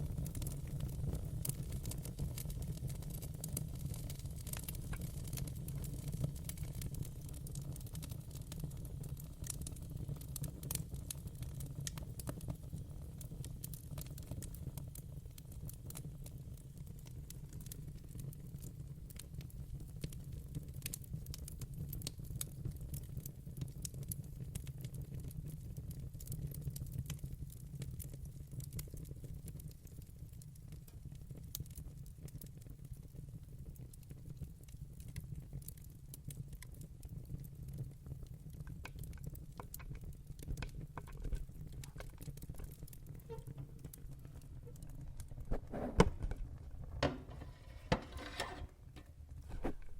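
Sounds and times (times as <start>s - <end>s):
campfire crackling and popping: 0.0s - 47.1s
low rumble of burning: 0.0s - 49.9s.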